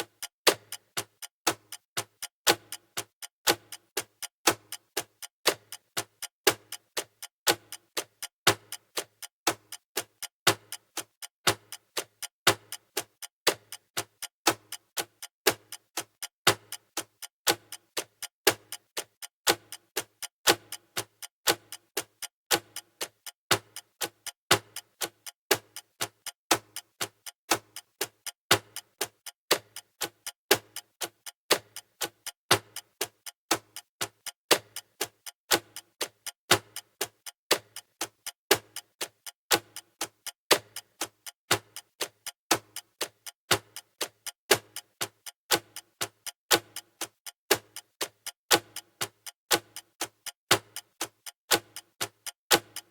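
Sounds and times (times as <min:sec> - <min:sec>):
clock ticking: 0:00.0 - 0:52.9.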